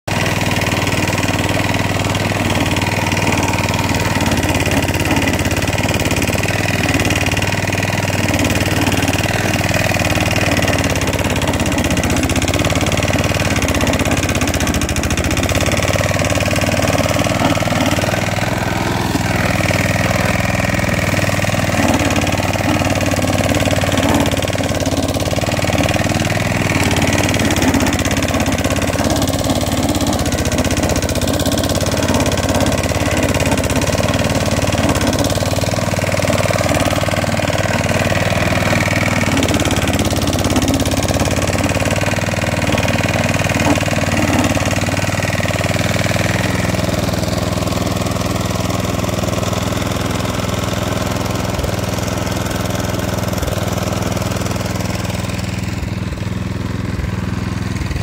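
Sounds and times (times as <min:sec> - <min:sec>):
lawn mower engine running: 0:00.0 - 0:58.0
blade raking moss: 0:00.1 - 0:55.8.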